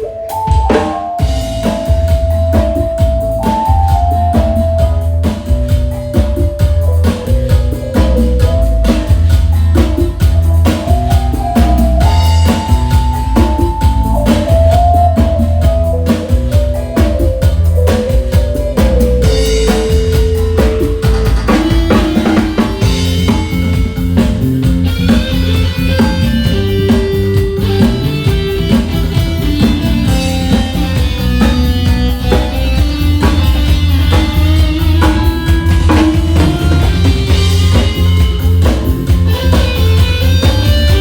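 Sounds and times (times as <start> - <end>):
drum beat: 0.0 - 41.0
electronic keyboard melody: 0.0 - 41.0
heavy bass: 0.0 - 41.0.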